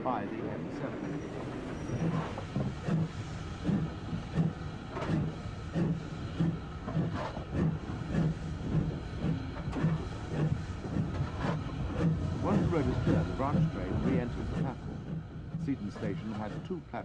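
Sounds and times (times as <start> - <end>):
steam locomotive chuffing: 0.0 - 17.0
steam hissing: 1.4 - 16.8.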